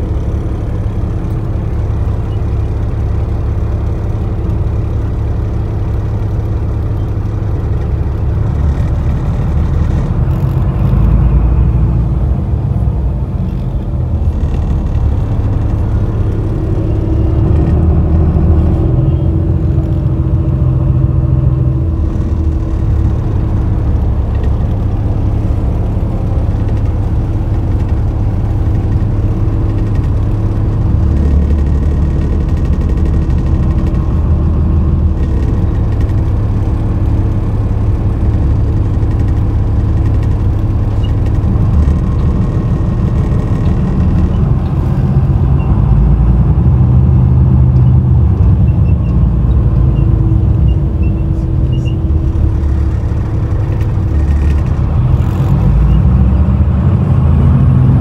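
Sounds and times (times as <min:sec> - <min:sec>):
vehicle engine hum and road rumble: 0:00.0 - 0:58.0.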